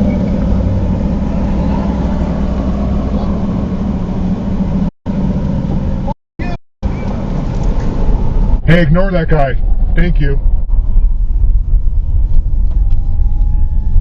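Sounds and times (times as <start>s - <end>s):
car engine and road drone: 0.0s - 14.0s.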